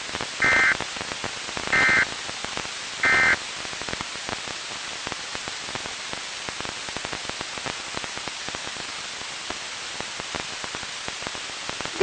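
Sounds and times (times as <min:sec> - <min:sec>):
radio static with crackles: 0:00.0 - 0:12.0.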